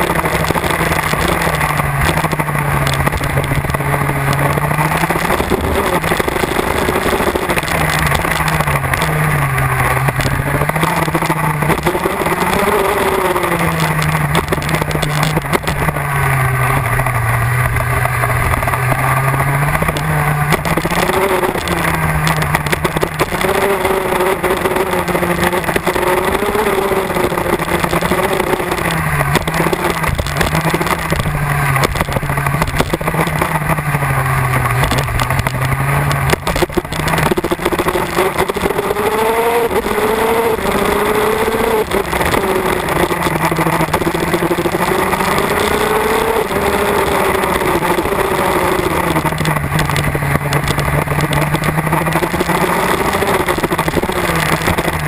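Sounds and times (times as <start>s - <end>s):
kart engine racing: 0.0s - 55.0s.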